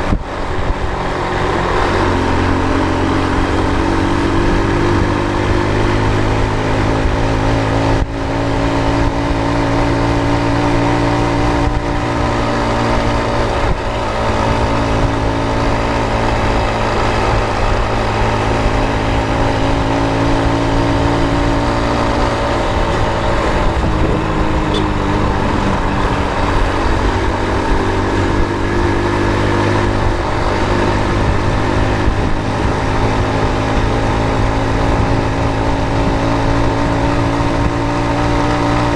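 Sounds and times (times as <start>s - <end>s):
road noise: 0.0s - 38.9s
vehicle engine running: 0.0s - 38.9s.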